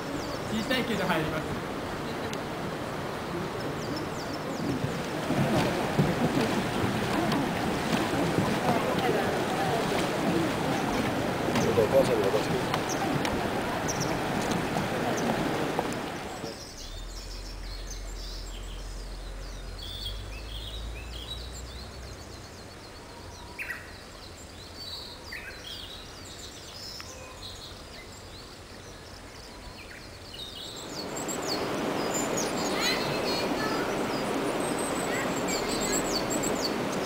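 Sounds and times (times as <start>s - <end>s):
faint steady hiss: 0.0s - 37.0s
small birds chirping: 0.0s - 37.0s.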